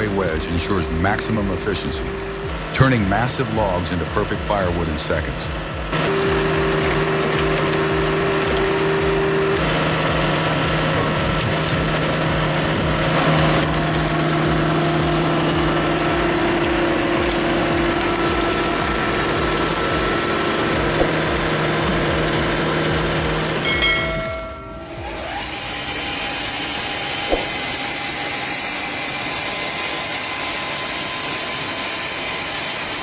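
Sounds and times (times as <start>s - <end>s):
diesel engine under load: 0.0s - 33.0s.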